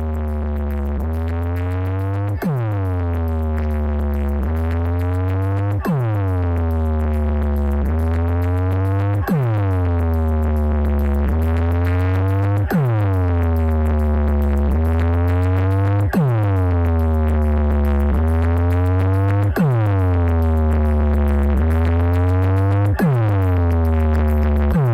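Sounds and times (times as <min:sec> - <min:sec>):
electronic dance music: 0:00.0 - 0:24.9.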